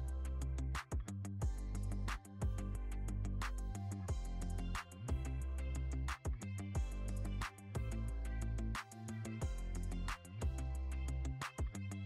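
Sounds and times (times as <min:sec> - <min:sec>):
background music with deep bass: 0:00.0 - 0:12.0.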